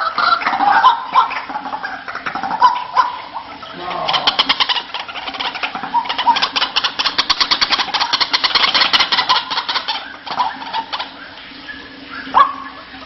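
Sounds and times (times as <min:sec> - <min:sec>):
bird harsh clicking croaks: 0:00.0 - 0:11.4.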